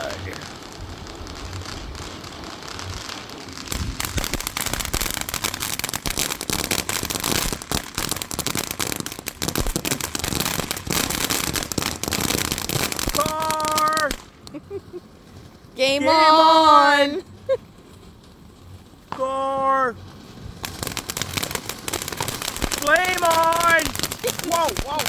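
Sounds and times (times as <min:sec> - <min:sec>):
firework crackling pops: 0:00.0 - 0:25.0
firework hissing: 0:00.0 - 0:25.0.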